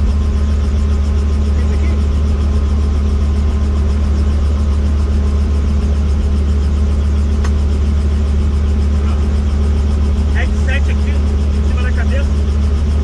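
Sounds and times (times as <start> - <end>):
helicopter rotor drone: 0.0 - 13.0.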